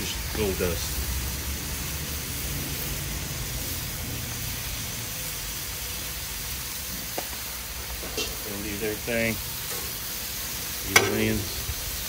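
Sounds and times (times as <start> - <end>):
liver and onions sizzling on griddle: 0.0 - 12.0.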